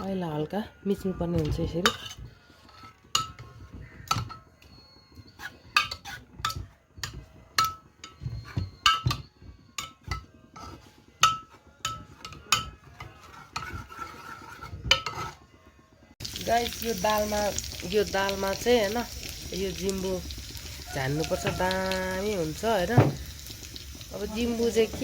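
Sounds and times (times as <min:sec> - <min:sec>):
metal utensil scraping metal pot: 0:00.0 - 0:15.5, 0:16.2 - 0:25.0.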